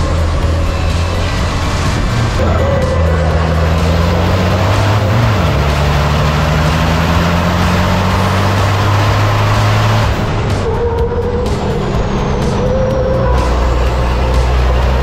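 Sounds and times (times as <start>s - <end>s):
racing engine drone: 0.0s - 15.0s
wind and road rush: 0.0s - 15.0s.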